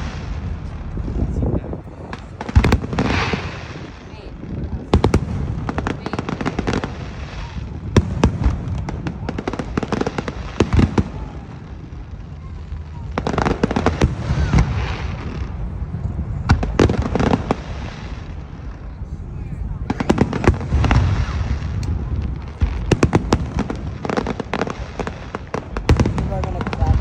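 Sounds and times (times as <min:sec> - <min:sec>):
fireworks bangs and crackles: 0:00.0 - 0:27.0
low rumble: 0:00.0 - 0:27.0.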